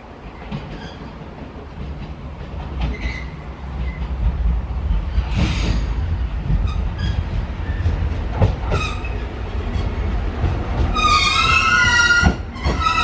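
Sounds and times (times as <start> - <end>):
diesel railcar engine and wheels rumbling: 0.0 - 13.0
wheels clicking over rail joints: 0.4 - 13.0.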